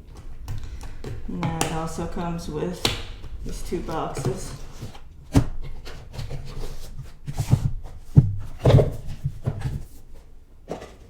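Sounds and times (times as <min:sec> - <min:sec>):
cardboard boxes knocking and scraping: 0:00.0 - 0:11.0.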